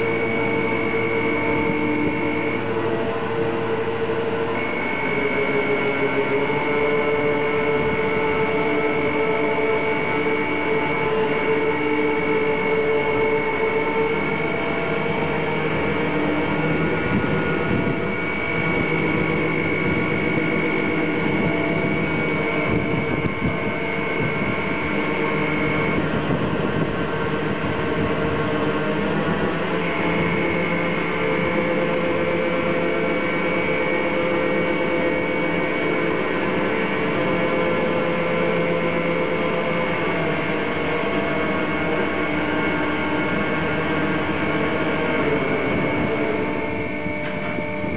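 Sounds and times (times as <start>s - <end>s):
crane hoist high whine: 0.0s - 47.9s
low mechanical hum: 0.0s - 47.9s.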